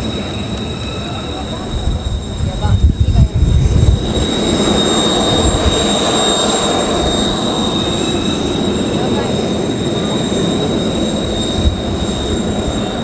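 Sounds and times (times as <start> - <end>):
jet engines whining and rumbling: 0.0 - 13.0.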